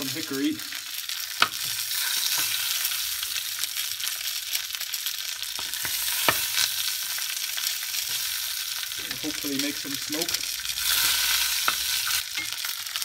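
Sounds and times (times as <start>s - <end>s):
meat sizzling and crackling: 0.0s - 13.0s.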